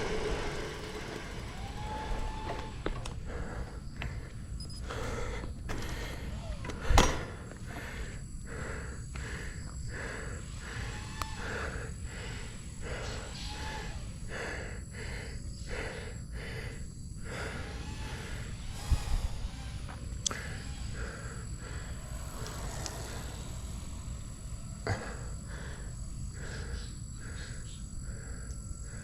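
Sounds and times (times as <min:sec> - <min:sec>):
wind and ride rumble: 0:00.0 - 0:29.0.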